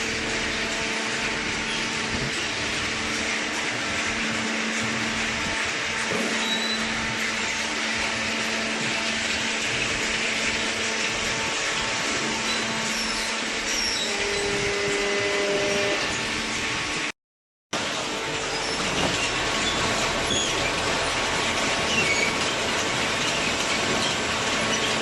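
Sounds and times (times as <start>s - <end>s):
baler motor and pump hum: 0.0s - 17.1s, 17.8s - 25.0s.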